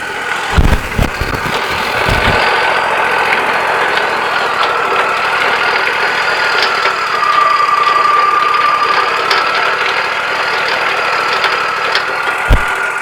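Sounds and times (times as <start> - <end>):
sawmill whining: 0.0 - 13.0
faint clicks: 0.6 - 13.0.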